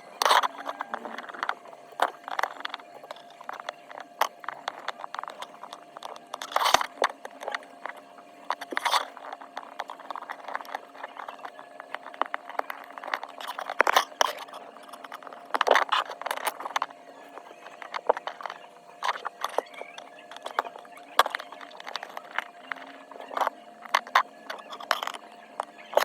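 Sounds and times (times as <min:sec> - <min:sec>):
small tools clicking and tapping: 0:00.2 - 0:26.0
tools scraping on phone: 0:00.2 - 0:26.0.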